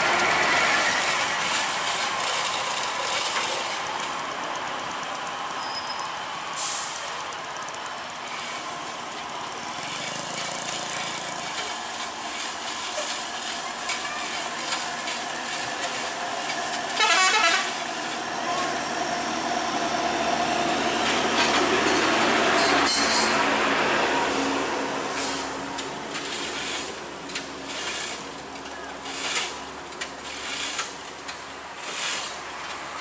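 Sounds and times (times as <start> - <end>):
buses and trucks engines: 0.0 - 33.0.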